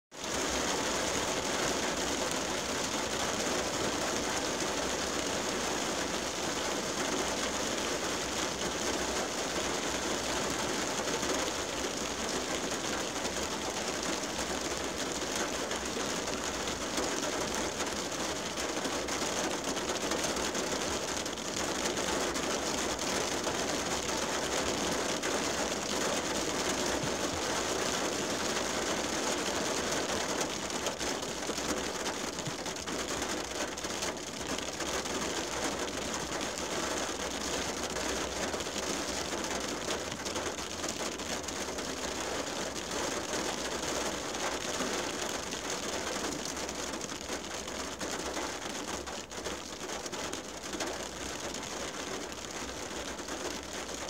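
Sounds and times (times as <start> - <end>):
rain on car windshield: 0.1 - 54.0.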